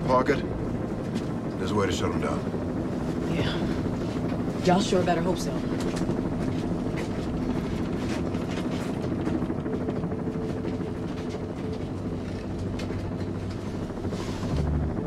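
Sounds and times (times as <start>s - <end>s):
aircraft engines droning in cabin: 0.0s - 15.0s.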